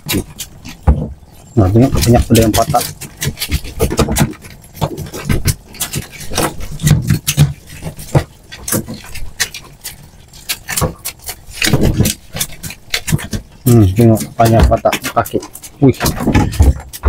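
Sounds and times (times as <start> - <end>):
prawn shells knocking together: 0.0 - 17.0
rustling while handling prawns: 0.0 - 17.0.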